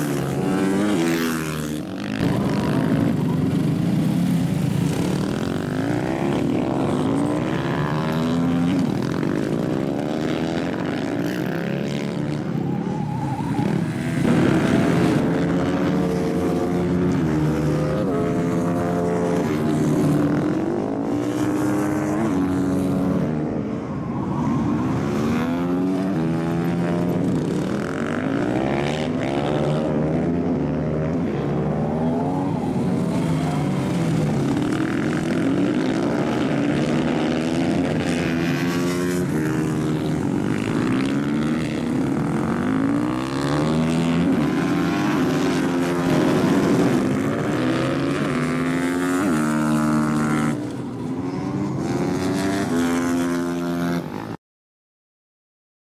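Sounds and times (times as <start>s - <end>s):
motorcycles racing: 0.0s - 54.4s.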